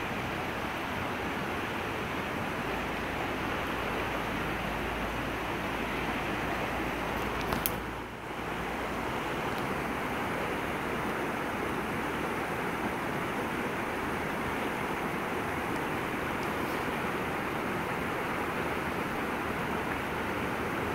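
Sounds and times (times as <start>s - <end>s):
steady outdoor rushing noise: 0.0s - 20.9s.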